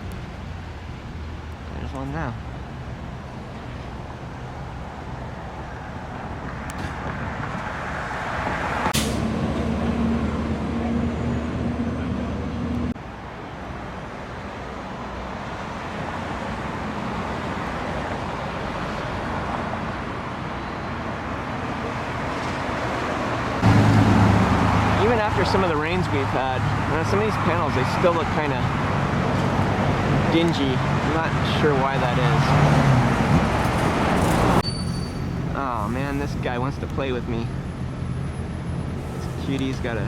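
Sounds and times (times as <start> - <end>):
heavy vehicle engine droning: 0.0 - 14.1, 14.9 - 40.0
vehicles passing: 0.0 - 40.0.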